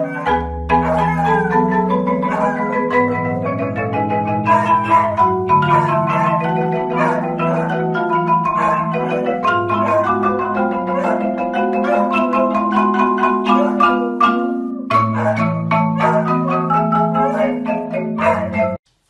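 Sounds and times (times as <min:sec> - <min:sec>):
marimbas playing: 0:00.0 - 0:18.8
puppy howling: 0:00.0 - 0:18.8.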